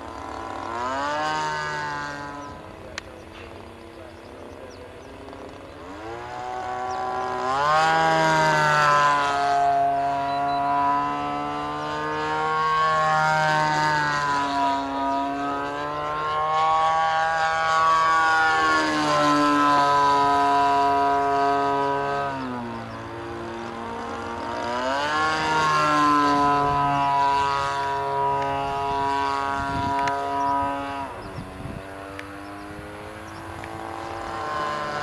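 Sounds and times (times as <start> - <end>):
model aircraft engine in flight: 0.0 - 35.0.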